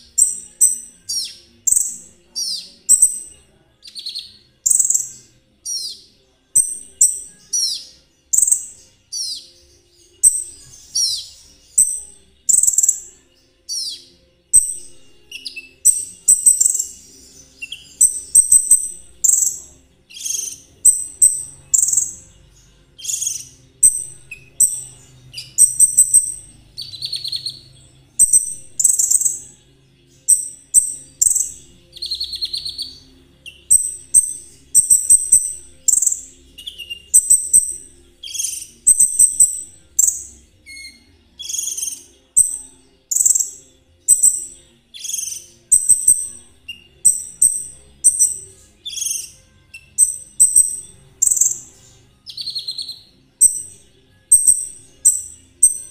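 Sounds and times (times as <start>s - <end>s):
songbird chirping and trilling: 0.0s - 55.9s.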